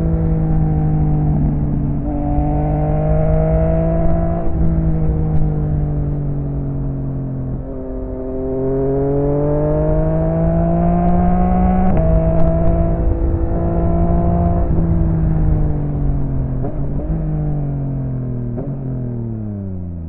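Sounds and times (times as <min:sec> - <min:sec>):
low wind rumble: 0:00.0 - 0:20.0
motorcycle engine revving: 0:00.0 - 0:20.0.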